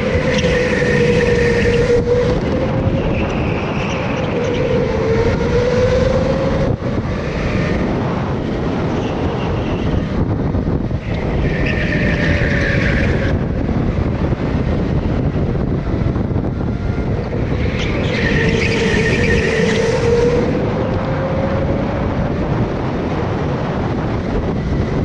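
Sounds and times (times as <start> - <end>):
go-kart motor rumbling: 0.0 - 25.0.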